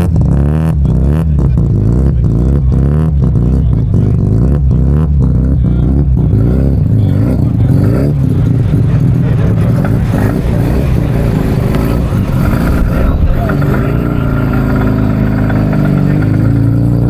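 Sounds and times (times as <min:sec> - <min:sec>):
rotary engine revving: 0:00.0 - 0:17.0.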